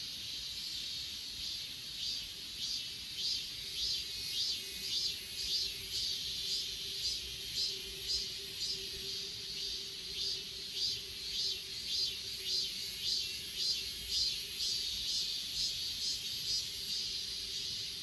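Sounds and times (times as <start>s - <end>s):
crickets trilling: 0.0s - 18.0s
insect chirps: 0.0s - 18.0s.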